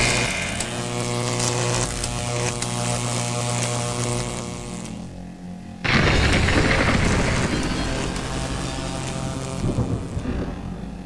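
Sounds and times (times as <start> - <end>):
electric crackles: 0.0 - 5.2, 5.8 - 11.0
electric buzzing hum: 0.0 - 11.0.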